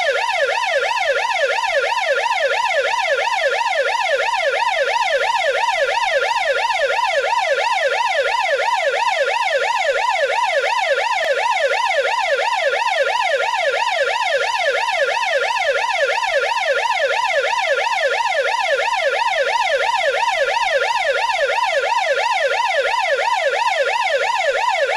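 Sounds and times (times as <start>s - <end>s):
police siren yelping: 0.0s - 24.9s.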